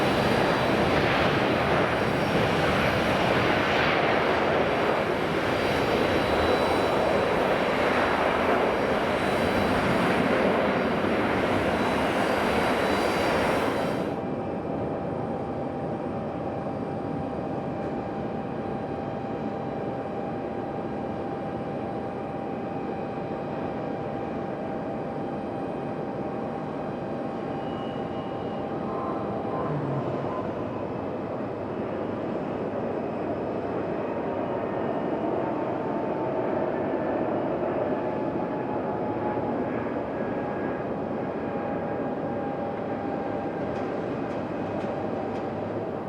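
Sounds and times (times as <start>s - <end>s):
jet engines running loud: 0.0s - 46.0s.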